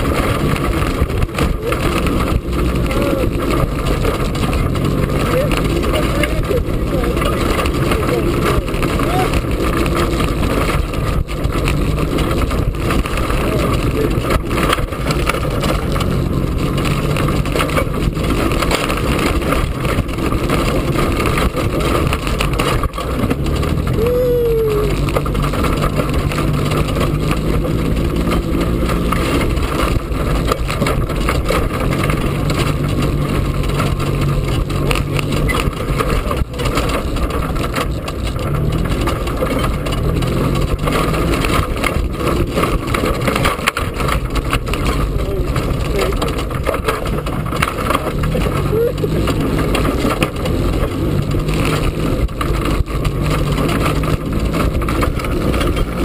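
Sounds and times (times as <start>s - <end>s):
golf cart rumbling: 0.0s - 56.0s
knocks and rattles over bumps: 0.0s - 56.0s.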